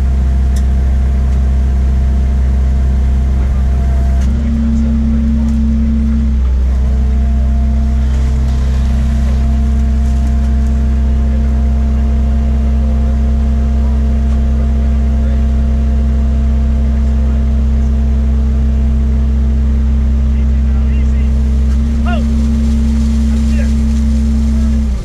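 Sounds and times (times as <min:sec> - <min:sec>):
harvester engine drone: 0:00.0 - 0:25.0
steady humming tones: 0:02.0 - 0:15.6, 0:16.8 - 0:25.0.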